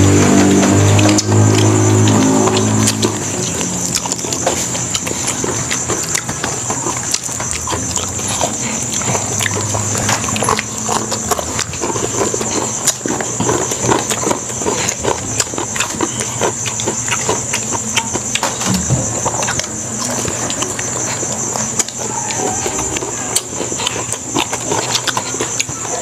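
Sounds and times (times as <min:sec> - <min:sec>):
chewing and lip smacking: 0:00.0 - 0:26.0.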